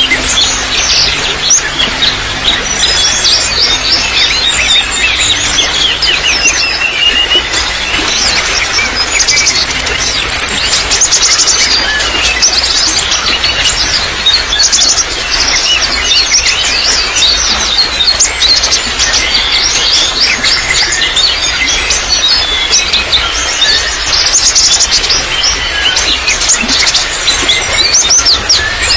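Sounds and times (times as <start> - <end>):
birds chirping and twittering: 0.0 - 28.9
running water trickling: 0.0 - 28.9.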